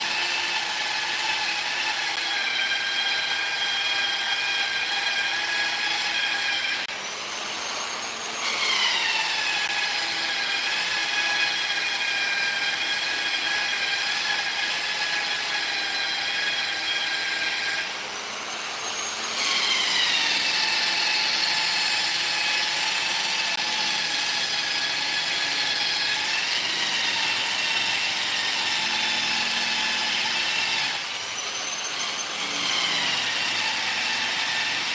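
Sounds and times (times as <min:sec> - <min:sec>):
power tool whining on wood: 0:00.0 - 0:34.9.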